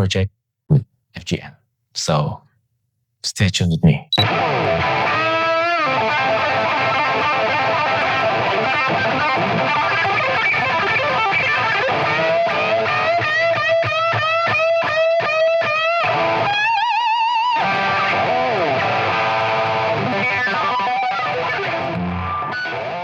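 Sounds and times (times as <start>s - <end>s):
distorted electric guitar: 4.2s - 23.0s.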